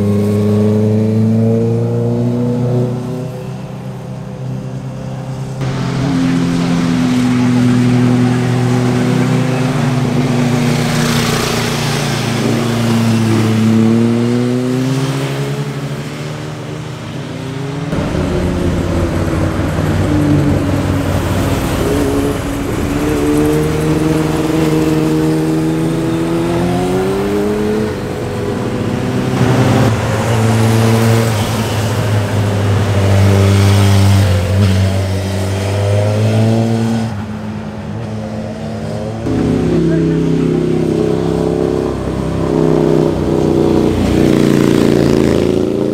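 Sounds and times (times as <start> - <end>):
motorcycles passing through bend: 0.0 - 45.9.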